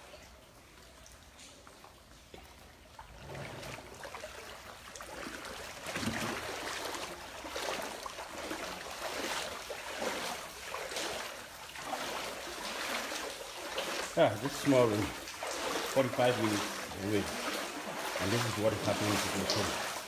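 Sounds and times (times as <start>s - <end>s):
wading through sloshing floodwater: 0.0s - 20.0s.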